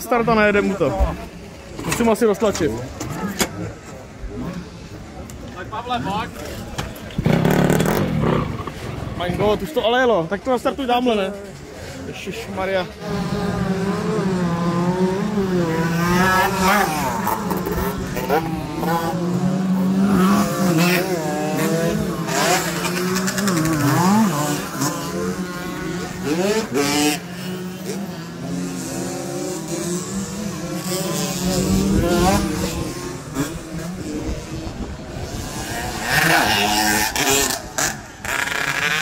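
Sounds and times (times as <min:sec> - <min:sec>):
motorcycle engines revving: 0:00.0 - 0:39.0.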